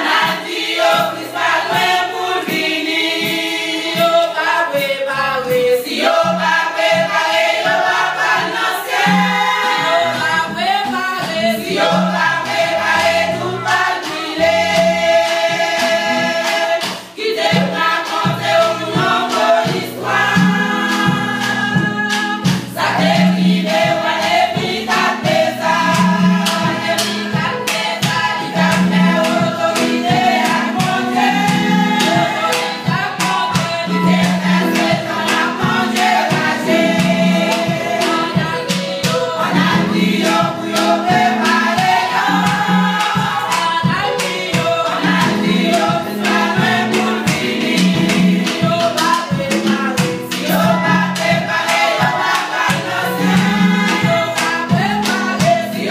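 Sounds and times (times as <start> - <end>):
women's choir singing: 0.0 - 55.9.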